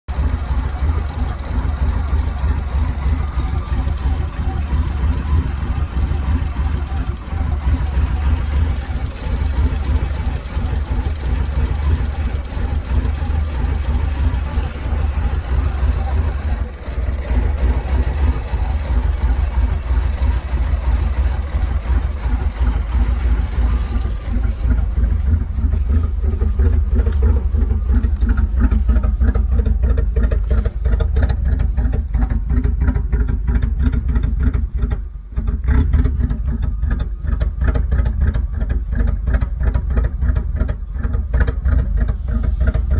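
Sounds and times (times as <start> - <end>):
car engine idling roughly: 0.0 - 42.9.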